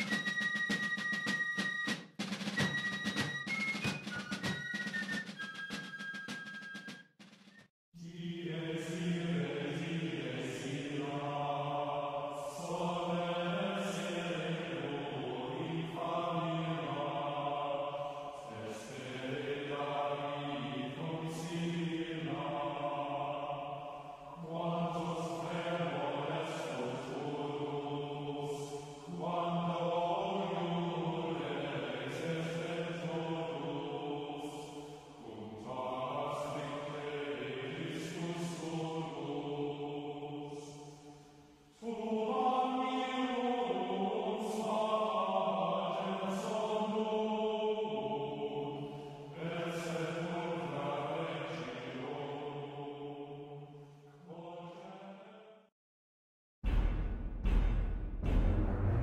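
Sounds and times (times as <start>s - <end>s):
slow vocal chanting: 8.0s - 55.7s.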